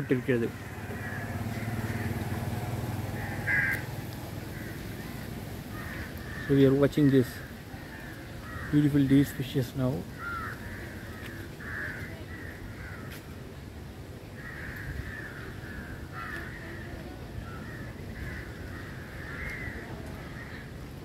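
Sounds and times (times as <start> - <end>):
birds cawing: 0.0 - 13.3, 14.3 - 20.8.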